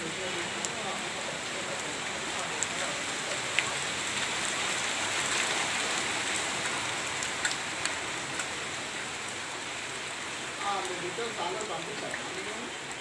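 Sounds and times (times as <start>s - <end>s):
rain falling on a street: 0.0s - 13.0s
sharp drips: 0.0s - 13.0s.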